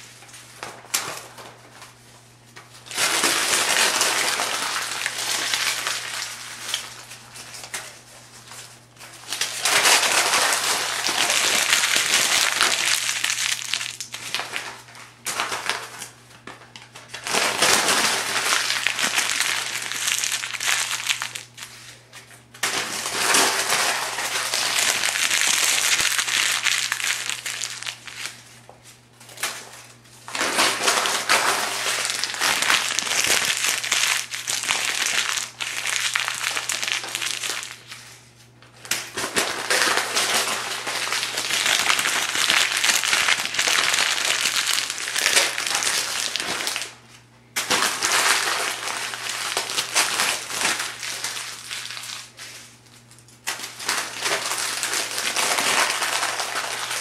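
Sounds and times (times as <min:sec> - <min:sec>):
paper pages being crumpled: 0:02.8 - 0:57.0.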